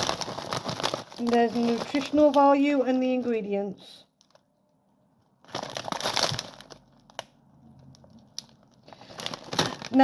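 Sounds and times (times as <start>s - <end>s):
plastic bag crinkling: 0.0s - 4.7s, 5.3s - 10.0s.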